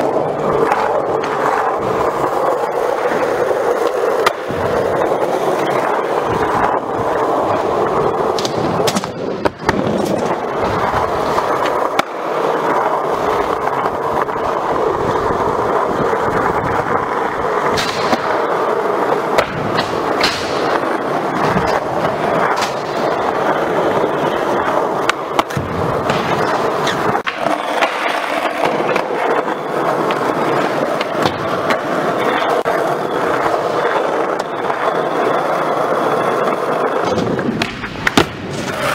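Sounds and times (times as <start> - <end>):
skateboard clacks: 0.0 - 38.9
skateboard wheels rolling: 0.0 - 38.9.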